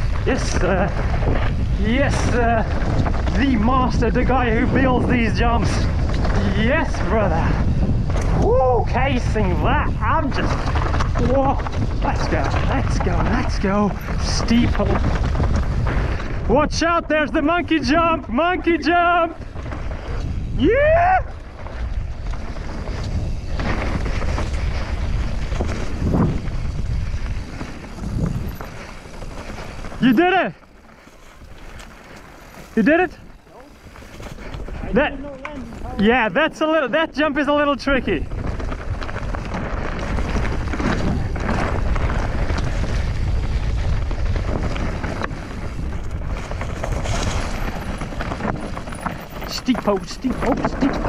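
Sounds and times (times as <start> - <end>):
mountain bike rolling on dirt: 0.0 - 51.0
wind buffeting microphone: 0.0 - 51.0.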